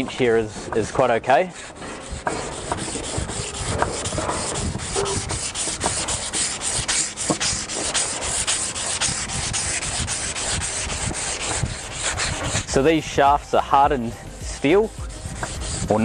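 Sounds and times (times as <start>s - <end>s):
abrasive tape rasping on metal: 0.0s - 16.0s.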